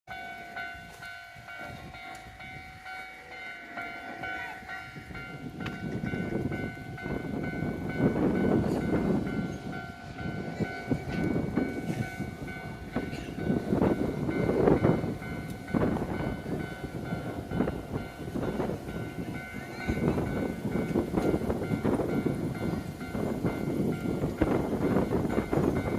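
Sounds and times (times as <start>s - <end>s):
train rumble passing: 0.1s - 25.9s.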